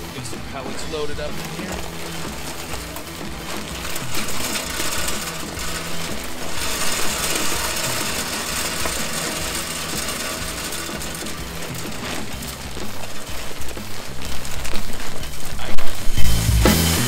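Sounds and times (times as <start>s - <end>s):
background music with a beat: 0.0s - 17.0s
pellets pouring into metal hopper: 0.0s - 17.0s.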